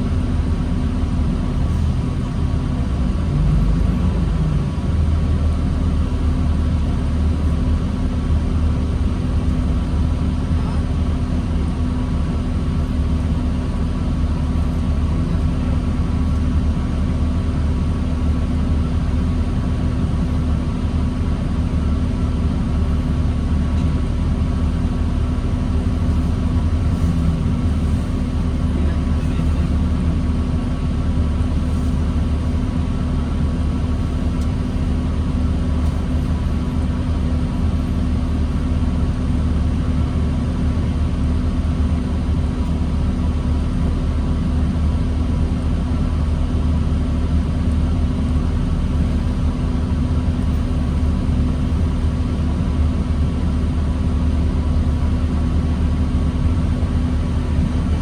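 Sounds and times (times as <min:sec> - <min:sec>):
bus engine drone: 0:00.0 - 0:58.0
constant hum: 0:00.0 - 0:58.0.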